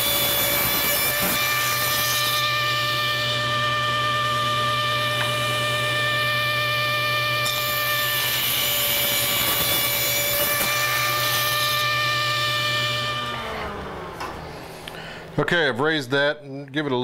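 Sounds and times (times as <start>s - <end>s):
saw blade cutting wood: 0.0s - 14.3s
table saw spinning down: 0.0s - 14.6s
table saw whining: 0.0s - 14.8s.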